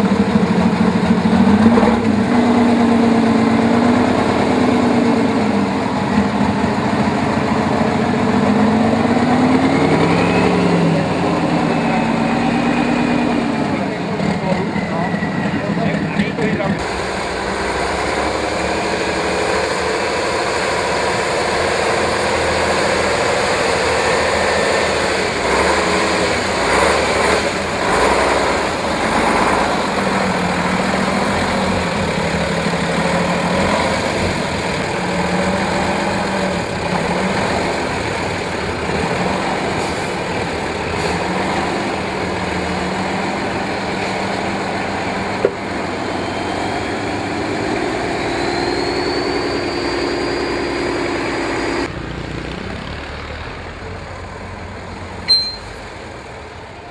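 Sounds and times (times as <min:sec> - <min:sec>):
truck engine under load: 0:00.0 - 0:56.9.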